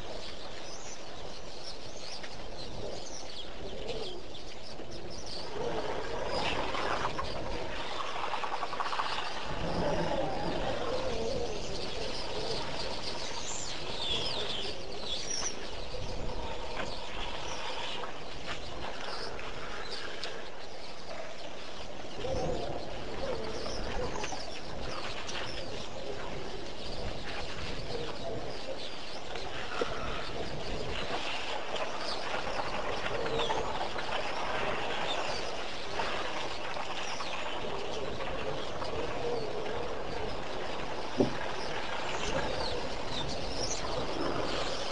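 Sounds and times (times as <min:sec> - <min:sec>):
wild birds chirping and calling: 0:00.0 - 0:44.9.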